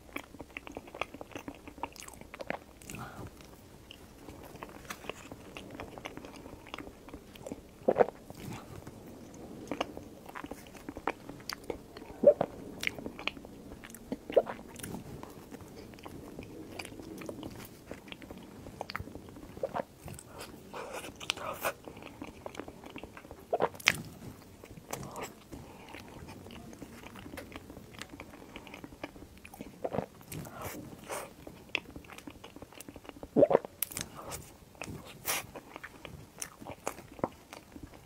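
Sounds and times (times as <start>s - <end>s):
close chewing and mouth sounds: 0.0s - 38.0s.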